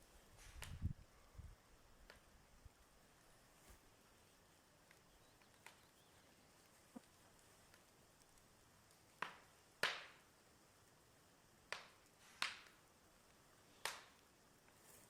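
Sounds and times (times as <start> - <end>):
firewood burning and popping: 0.0 - 15.0.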